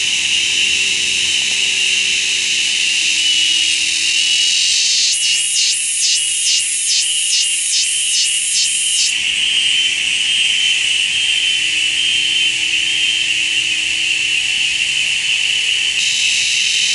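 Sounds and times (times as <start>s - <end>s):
cicada buzzing: 0.0s - 16.9s.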